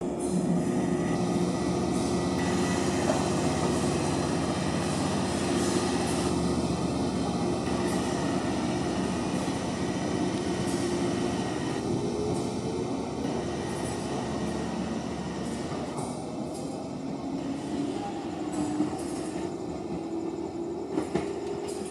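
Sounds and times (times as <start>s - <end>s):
electric train rumbling: 0.0s - 21.9s.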